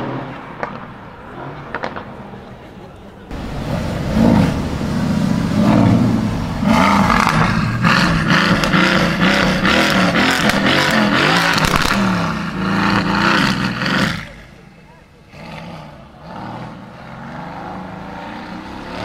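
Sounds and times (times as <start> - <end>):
exhaust crackles: 3.2 - 19.0
car engine pulling away: 3.3 - 19.0.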